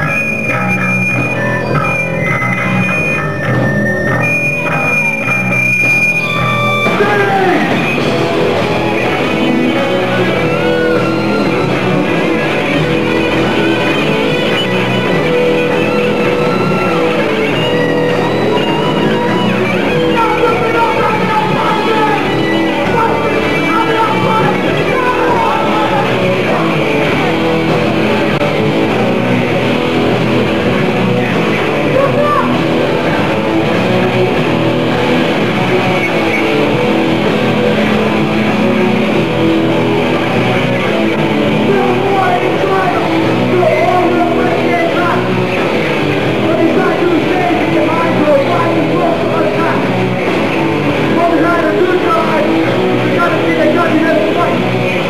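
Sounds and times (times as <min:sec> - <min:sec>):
bass guitar: 0:00.0 - 0:55.0
drums: 0:00.0 - 0:55.0
electric guitar: 0:00.0 - 0:55.0
high held tone: 0:00.0 - 0:55.0.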